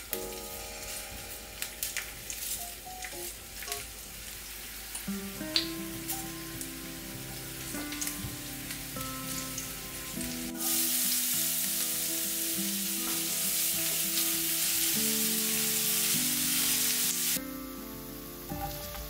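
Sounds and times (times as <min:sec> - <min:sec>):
oil sizzling in a pan: 0:00.0 - 0:19.0.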